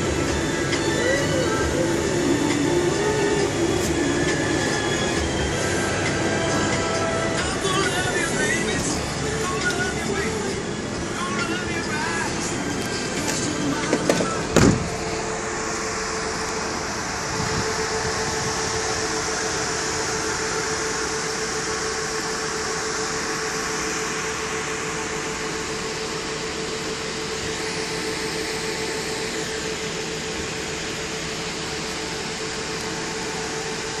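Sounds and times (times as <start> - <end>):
idling vehicle whir and hum: 0.0 - 34.0.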